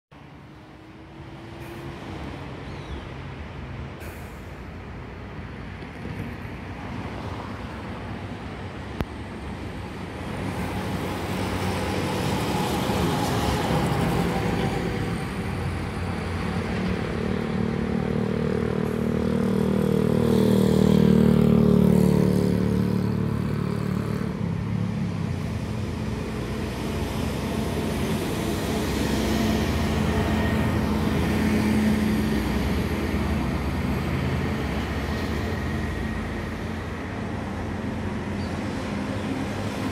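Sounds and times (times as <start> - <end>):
road traffic: 0.1 - 39.9.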